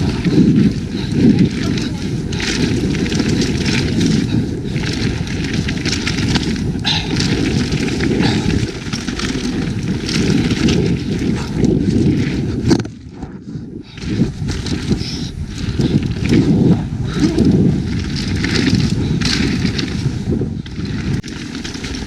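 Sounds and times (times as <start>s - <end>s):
bike rattling: 0.0s - 22.0s
bike tyres rumbling over dirt: 0.0s - 22.0s
wind buffeting microphone: 0.0s - 22.0s.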